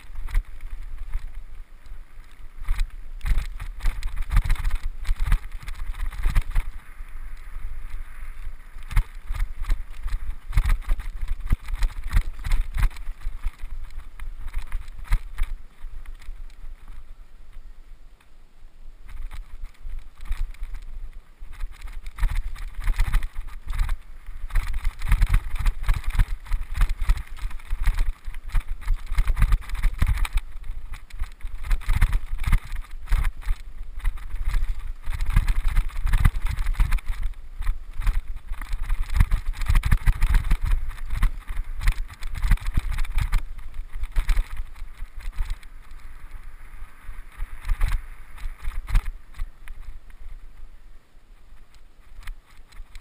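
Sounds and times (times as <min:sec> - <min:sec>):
bike tyres rumbling on dirt: 0:00.0 - 0:17.7, 0:19.0 - 0:53.0.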